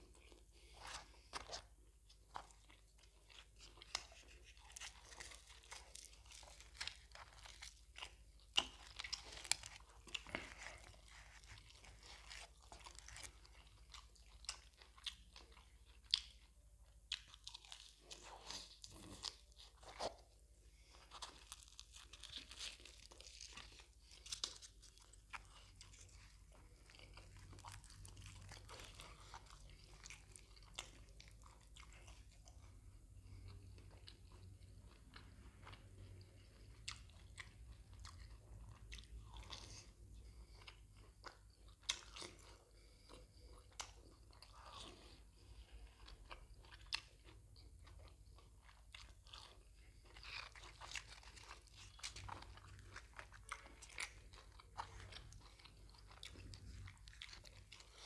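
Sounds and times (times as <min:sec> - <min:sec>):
chewing and crunching fried food: 0:00.0 - 0:58.0.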